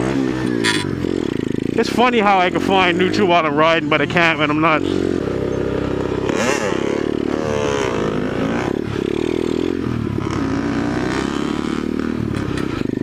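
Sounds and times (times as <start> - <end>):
pit bike engine running: 0.0 - 13.0.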